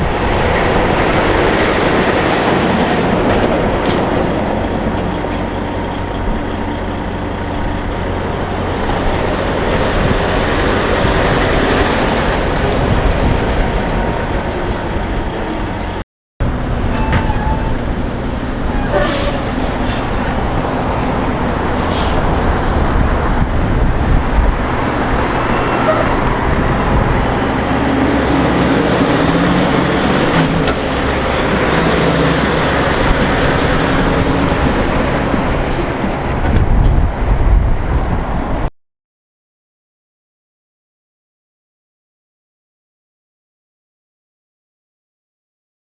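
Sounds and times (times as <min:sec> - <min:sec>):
diesel engine and tyre noise: 0:00.0 - 0:38.7
trucks driving past: 0:00.0 - 0:38.7.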